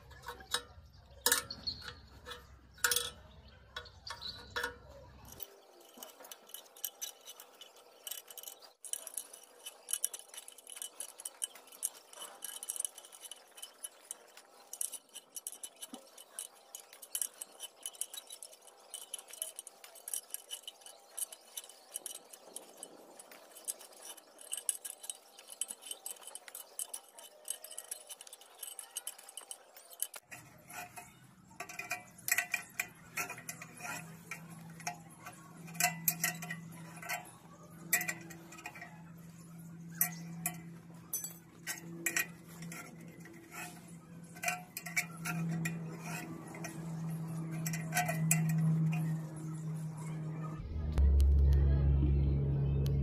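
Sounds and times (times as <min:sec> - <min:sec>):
light metallic clicks: 0:00.0 - 0:50.2
steady low hum: 0:00.0 - 0:53.0.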